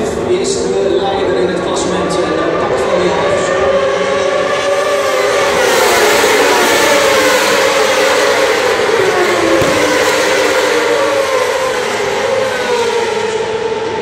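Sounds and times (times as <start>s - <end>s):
racing motorcycles passing: 2.0s - 14.0s.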